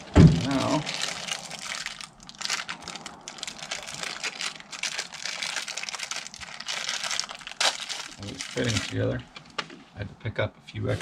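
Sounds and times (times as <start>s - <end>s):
pipe fittings crinkling and clicking: 0.4s - 9.7s.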